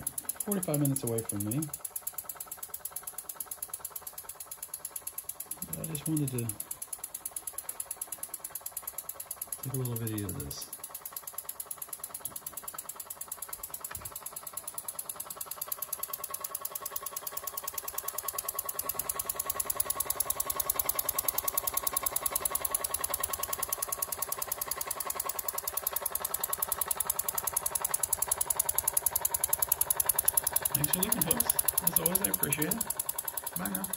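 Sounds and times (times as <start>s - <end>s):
toy engine exhaust puffs: 0.0s - 33.9s.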